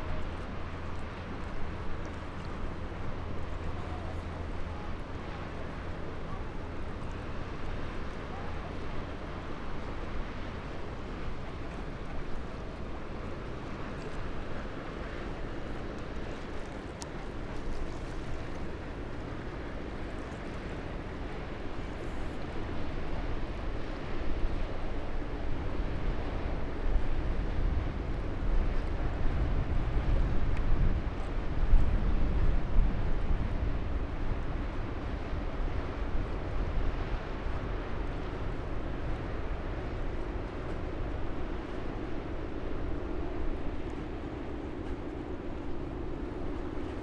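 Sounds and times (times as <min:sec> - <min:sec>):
ship engine rumble: 0:00.0 - 0:47.0
wind buffeting microphone: 0:00.0 - 0:47.0.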